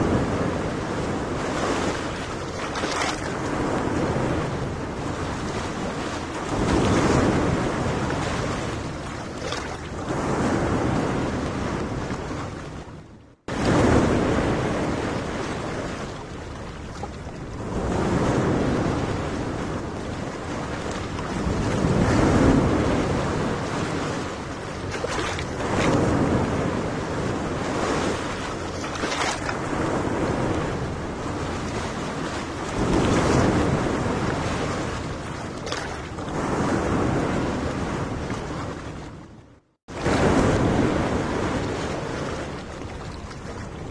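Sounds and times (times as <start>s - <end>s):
waves washing onto beach: 0.0s - 43.9s
wind rumbling on microphone: 0.0s - 43.9s.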